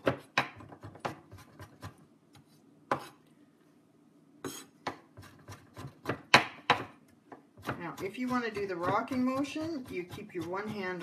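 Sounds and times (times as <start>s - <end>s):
knife chopping on cutting board: 0.0s - 3.2s, 4.4s - 7.0s, 7.6s - 11.0s.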